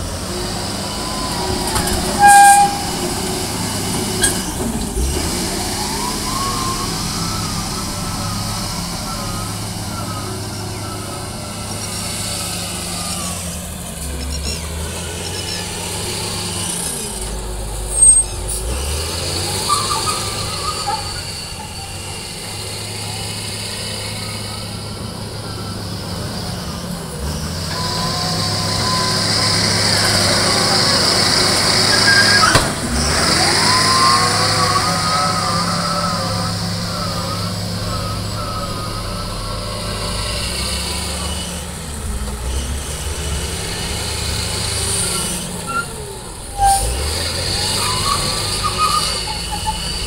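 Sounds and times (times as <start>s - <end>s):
diesel engine under load: 0.0s - 50.0s.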